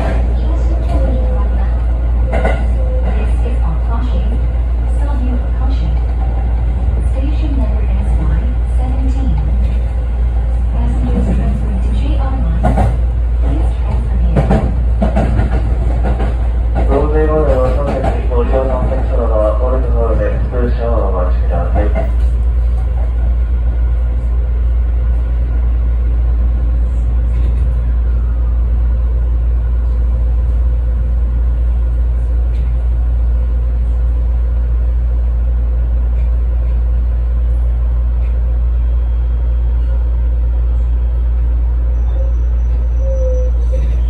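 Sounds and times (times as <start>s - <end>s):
electric train low rumble: 0.0s - 44.0s.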